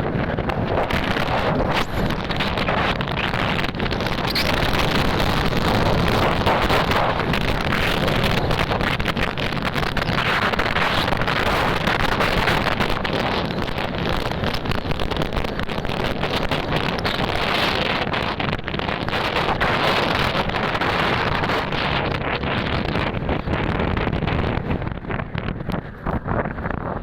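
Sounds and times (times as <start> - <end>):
road and engine noise: 0.0 - 27.0
wind buffeting microphone: 0.0 - 27.0.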